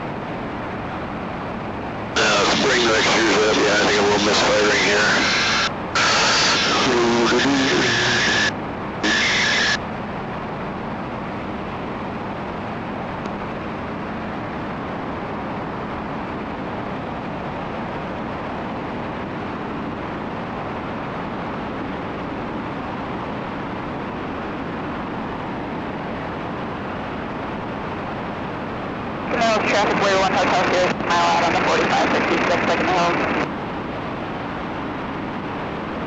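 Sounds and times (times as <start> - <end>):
airplane engines droning in cabin: 0.0 - 36.0.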